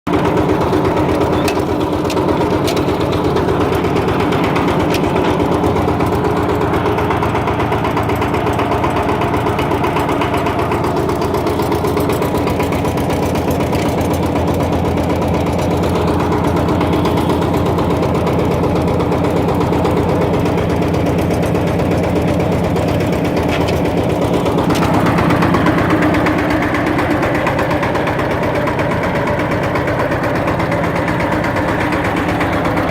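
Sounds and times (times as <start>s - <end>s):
diesel engine thudding: 0.1s - 32.9s.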